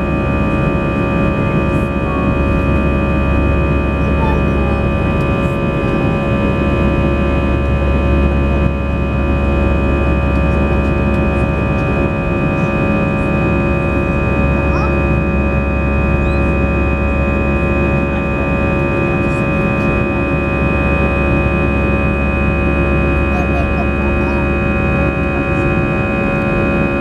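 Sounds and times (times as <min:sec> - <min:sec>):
airplane cabin engine drone: 0:00.0 - 0:27.0.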